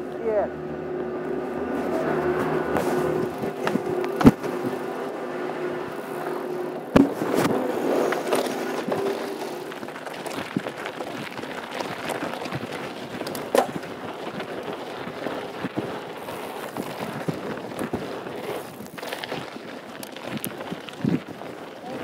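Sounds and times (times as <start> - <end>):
bike rattling: 0.0 - 22.0
bike tyres crunching on gravel: 0.0 - 22.0.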